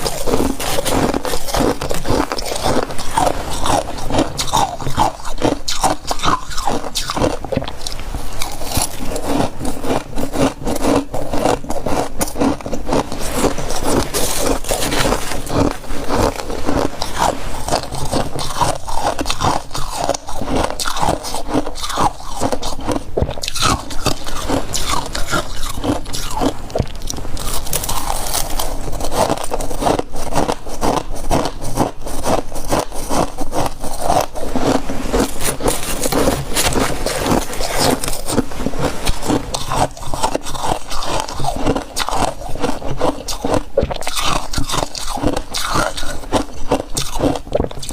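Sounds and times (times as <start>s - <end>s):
crunchy chewing of frost: 0.0s - 47.9s.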